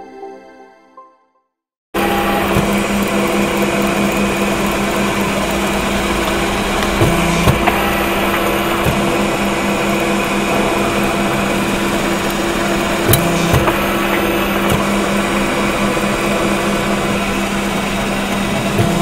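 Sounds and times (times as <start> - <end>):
riveting machine motor hum: 2.0 - 19.0.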